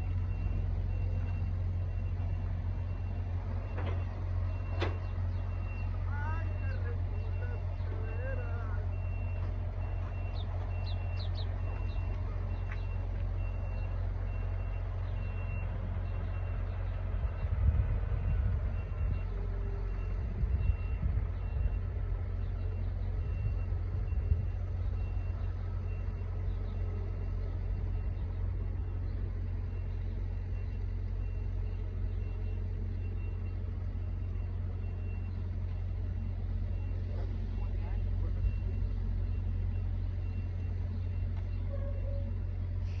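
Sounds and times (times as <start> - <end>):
reversing alarm beeping: 0.0 - 43.0
truck engine idling: 0.0 - 43.0.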